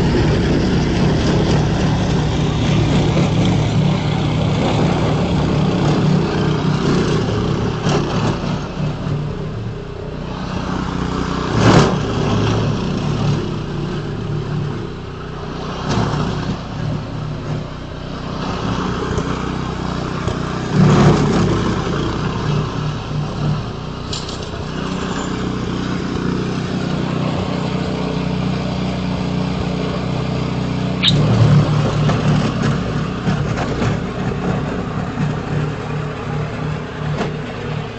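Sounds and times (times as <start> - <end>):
snow-clearing machine engine running: 0.0 - 37.9.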